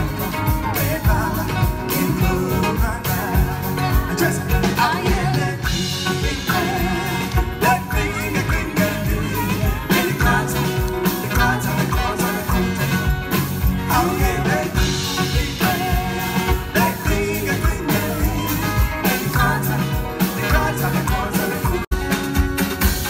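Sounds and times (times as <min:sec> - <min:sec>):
person singing: 0:00.0 - 0:22.2
live band playing: 0:00.0 - 0:23.0
steady drum beat: 0:00.0 - 0:23.0.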